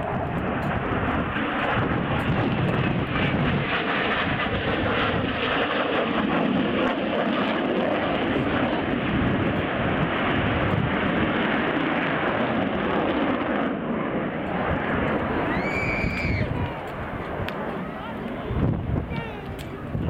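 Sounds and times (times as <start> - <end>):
aircraft engine roar: 0.0 - 20.0.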